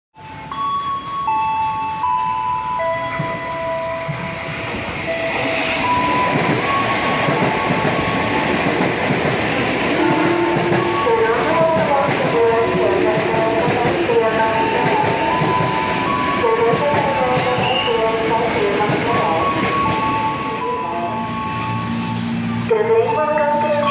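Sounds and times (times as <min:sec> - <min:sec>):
electric train rumbling on rails: 0:00.2 - 0:23.9.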